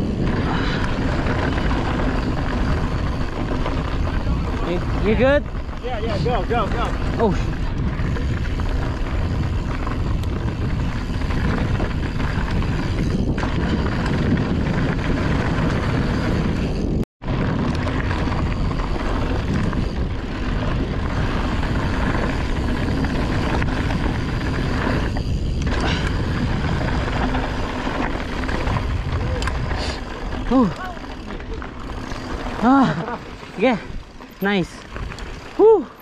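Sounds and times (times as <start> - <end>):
bike tyres rolling on dirt: 0.0 - 36.0
wind buffeting microphone: 0.0 - 36.0.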